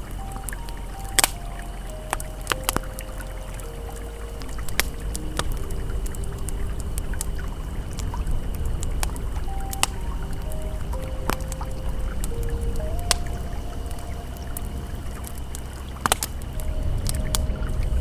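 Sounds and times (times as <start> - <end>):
campfire crackling and popping: 0.0 - 18.0
river flowing: 0.0 - 18.0
soft ambient music tones: 0.0 - 18.0.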